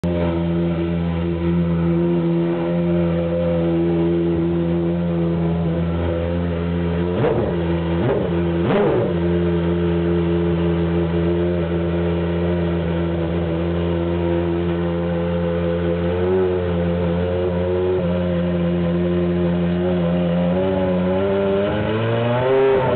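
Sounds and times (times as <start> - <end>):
race engine idling: 0.0 - 21.9
engine throttle blips: 0.0 - 22.9.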